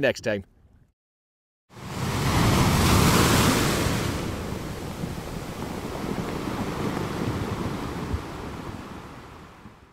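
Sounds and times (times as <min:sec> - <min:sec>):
wind: 0:00.0 - 0:00.9, 0:01.7 - 0:09.9
sea waves washing in: 0:01.7 - 0:09.9.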